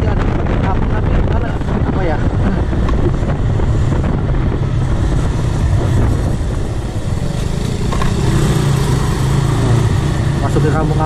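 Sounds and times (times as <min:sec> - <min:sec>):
road noise: 0:00.0 - 0:11.0
motorcycle engine running: 0:01.6 - 0:11.0.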